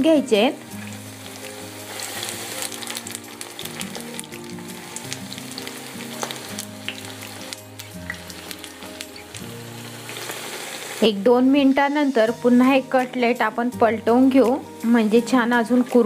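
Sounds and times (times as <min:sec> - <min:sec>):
oil sizzling and popping in pan: 0:00.0 - 0:13.7.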